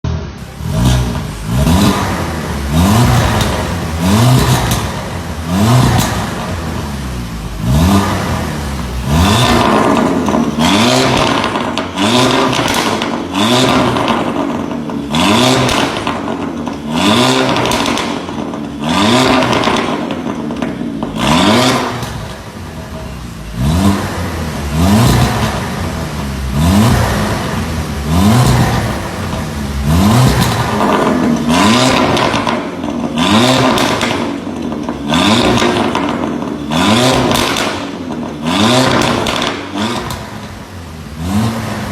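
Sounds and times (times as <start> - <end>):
car engine revving: 0.1 - 41.9.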